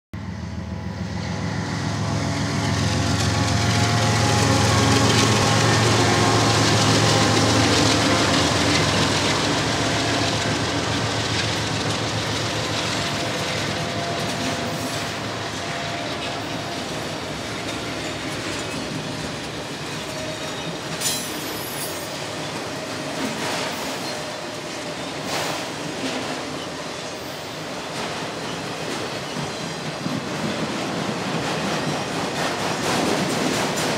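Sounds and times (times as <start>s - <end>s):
diesel locomotive engines humming: 0.2s - 33.9s
train wheels rumbling on rail: 0.2s - 33.9s.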